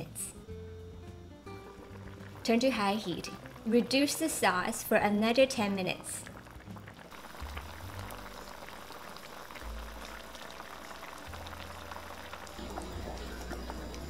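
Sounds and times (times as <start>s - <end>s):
sauce boiling with popping bubbles: 0.4s - 14.0s.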